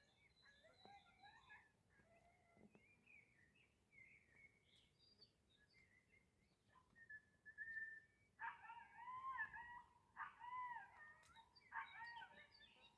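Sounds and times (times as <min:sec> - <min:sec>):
faint birdsong: 0:00.0 - 0:12.9.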